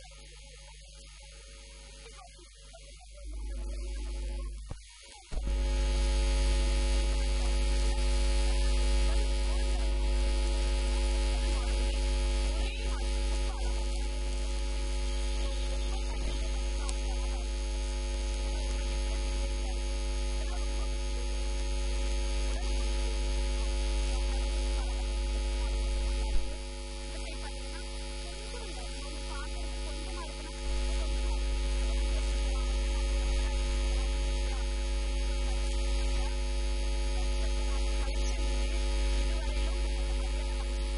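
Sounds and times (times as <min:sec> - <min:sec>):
electrical mains hum: 0:00.0 - 0:40.9.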